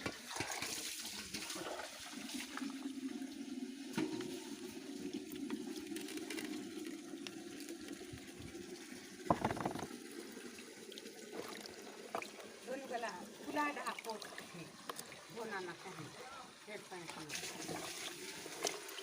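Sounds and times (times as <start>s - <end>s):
water swirling and gurgling: 0.0s - 19.0s.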